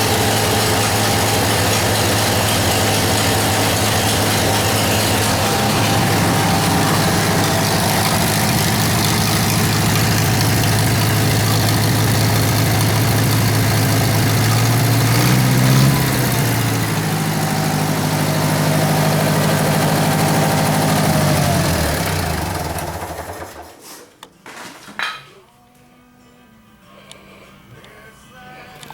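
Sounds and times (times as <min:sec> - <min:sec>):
welder engine running: 0:00.0 - 0:23.8.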